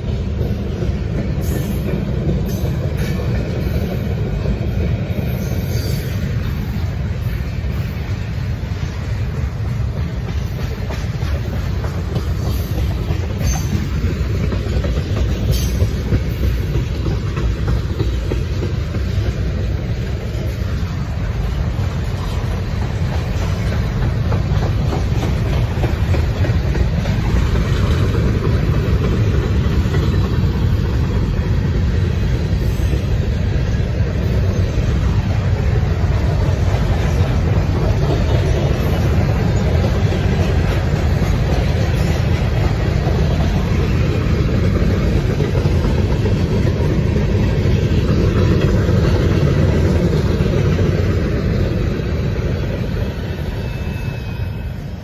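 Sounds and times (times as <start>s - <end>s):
freight cars rumbling on rails: 0.0s - 55.0s
rail clicks: 0.0s - 55.0s.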